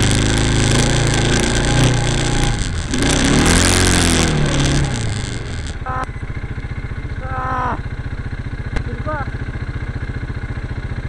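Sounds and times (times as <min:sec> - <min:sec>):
quad engine revving and idling: 0:00.0 - 0:11.0.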